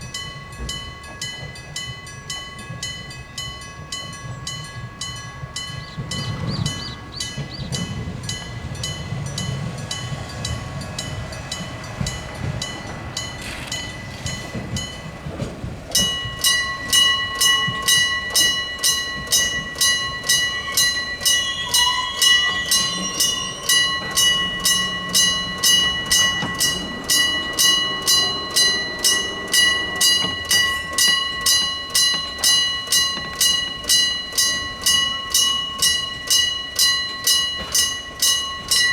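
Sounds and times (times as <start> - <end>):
level-crossing warning bell ringing: 0.0 - 38.9
train rumbling: 0.0 - 38.9.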